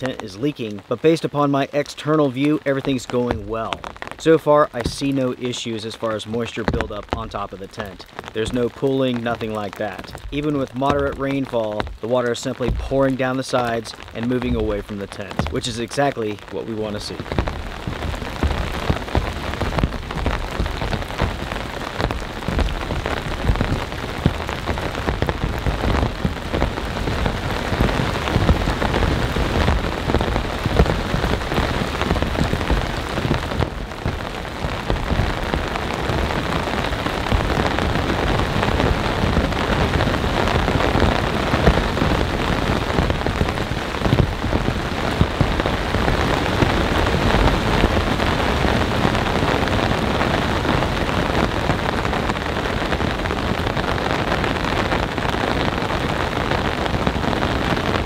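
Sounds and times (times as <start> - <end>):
rain pattering on tent: 0.0 - 58.0.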